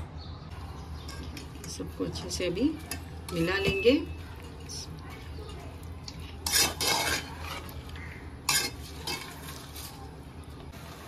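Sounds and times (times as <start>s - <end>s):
metal spoon scraping a pot: 1.0s - 10.1s.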